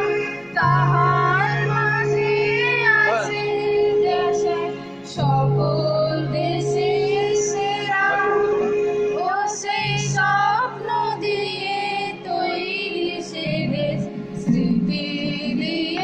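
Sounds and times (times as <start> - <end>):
electronic keyboard chords: 0.0 - 16.0
group singing: 0.0 - 16.0.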